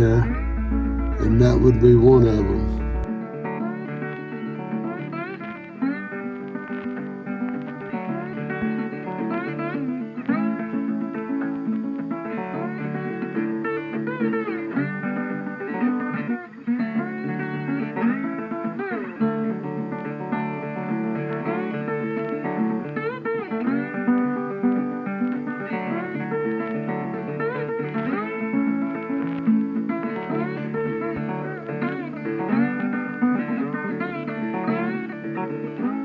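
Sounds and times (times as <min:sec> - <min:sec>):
bluesy acoustic guitar: 0:00.0 - 0:36.0.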